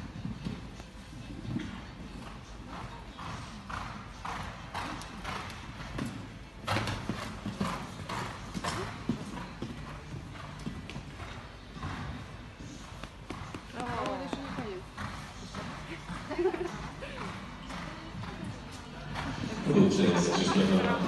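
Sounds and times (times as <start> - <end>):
horse hooves cantering on sand: 0.0 - 19.6.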